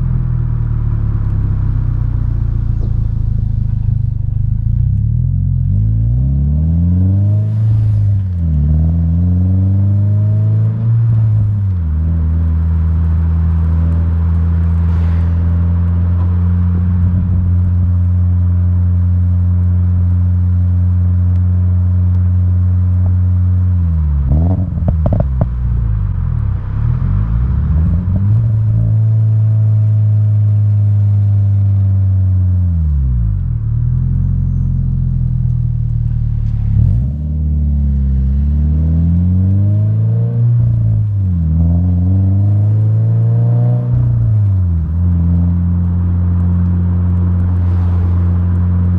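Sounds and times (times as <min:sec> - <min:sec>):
car engine revving: 0:00.0 - 0:20.6, 0:23.7 - 0:48.9
exhaust crackles and pops: 0:00.0 - 0:48.9.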